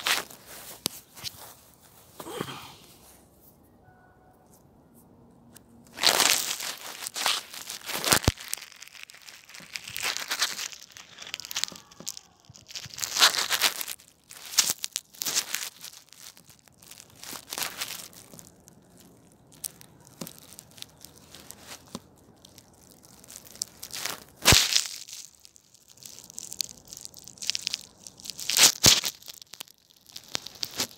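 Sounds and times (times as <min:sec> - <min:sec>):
dry grass scraping microphone: 0:00.0 - 0:03.6, 0:05.8 - 0:29.5.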